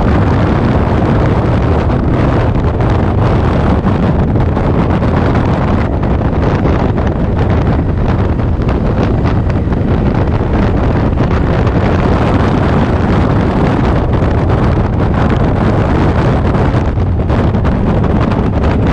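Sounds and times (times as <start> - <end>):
motorcycle engine: 0.0 - 18.9
road noise: 0.0 - 18.9
wind buffeting microphone: 0.0 - 18.9.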